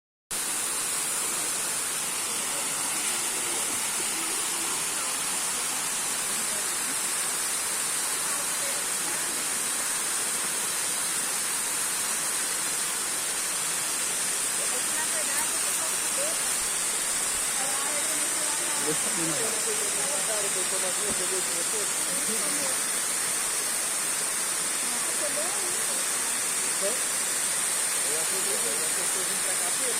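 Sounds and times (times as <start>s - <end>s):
waterfall rushing: 0.3s - 29.9s.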